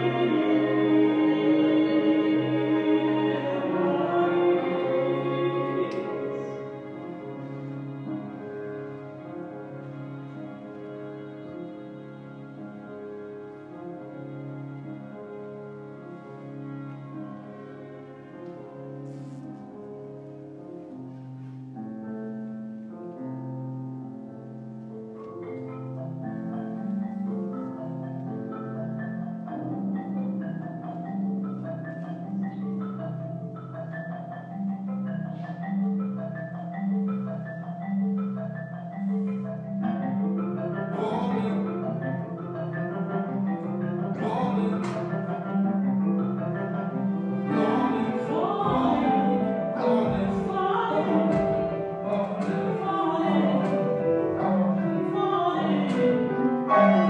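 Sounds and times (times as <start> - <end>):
chamber ensemble music: 0.0 - 57.0.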